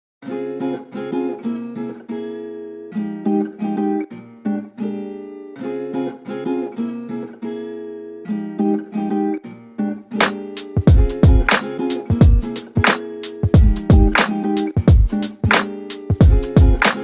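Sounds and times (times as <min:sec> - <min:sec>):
acoustic guitar chords: 0:00.2 - 0:17.0.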